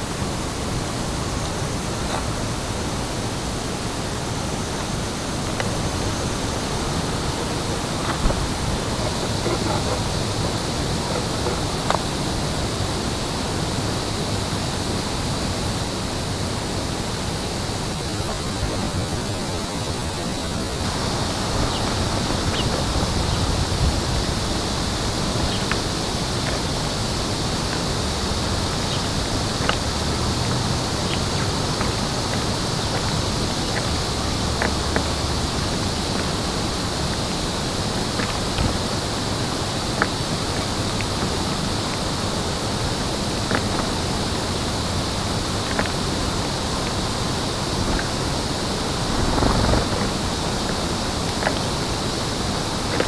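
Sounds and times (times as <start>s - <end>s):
steady rushing noise: 0.0s - 53.0s.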